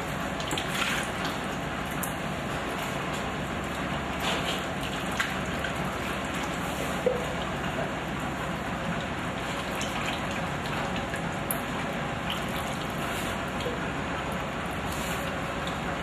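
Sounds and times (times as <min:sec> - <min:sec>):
liquid pouring and splashing: 0:00.0 - 0:16.0.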